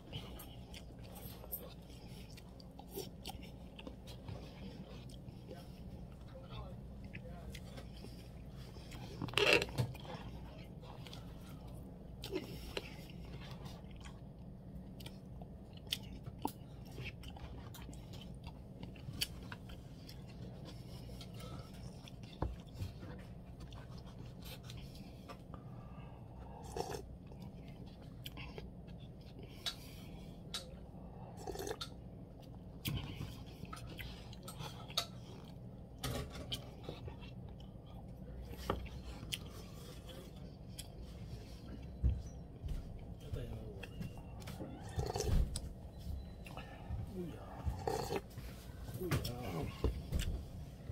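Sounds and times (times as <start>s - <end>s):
person chewing: 0.0s - 50.9s.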